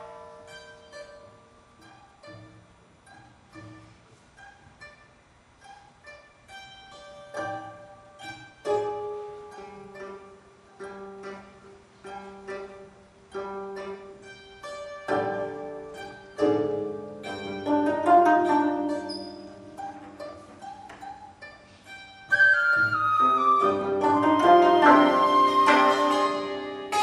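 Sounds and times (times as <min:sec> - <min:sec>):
plucked zither ensemble: 0:00.0 - 0:27.0.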